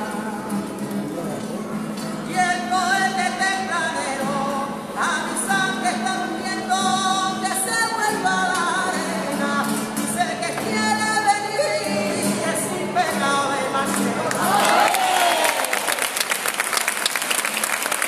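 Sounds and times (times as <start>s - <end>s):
voices singing flamenco style: 0.0s - 15.7s.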